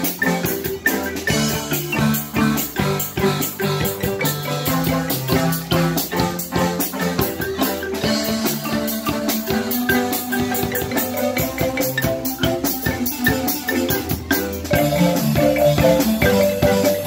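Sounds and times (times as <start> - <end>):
drum kit beat: 0.0 - 17.0
marimba ensemble playing: 0.0 - 17.0.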